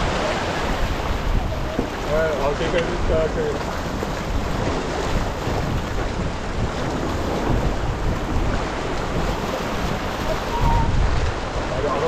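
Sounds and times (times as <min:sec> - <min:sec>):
water rushing along hull: 0:00.0 - 0:12.0
wind noise on microphone: 0:00.0 - 0:12.0.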